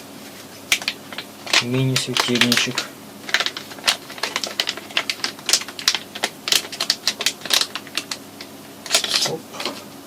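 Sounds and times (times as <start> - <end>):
plastic packaging crackling: 0.7 - 9.4.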